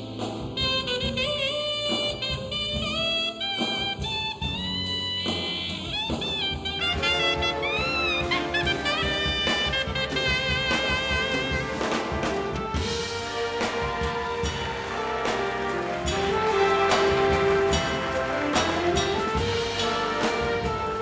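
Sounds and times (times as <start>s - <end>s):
big band jazz playing: 0.0s - 21.0s.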